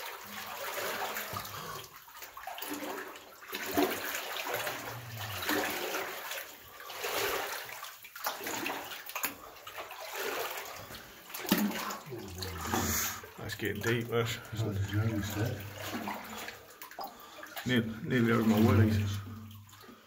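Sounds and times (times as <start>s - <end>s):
boots wading through water: 0.0s - 20.0s.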